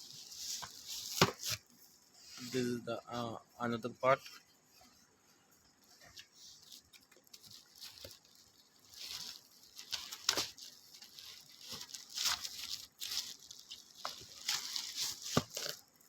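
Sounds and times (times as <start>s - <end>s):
packaging rustling and crinkling: 0.0s - 2.7s, 5.7s - 16.0s.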